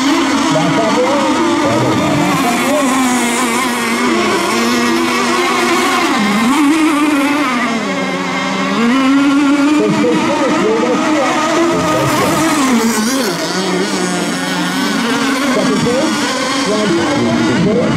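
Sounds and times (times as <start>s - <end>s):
model boat engines revving: 0.0s - 17.9s.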